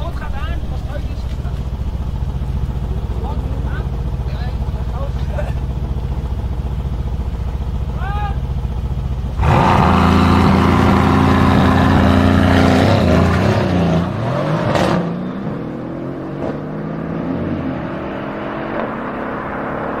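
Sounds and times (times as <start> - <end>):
car engines revving high: 0.0 - 20.0.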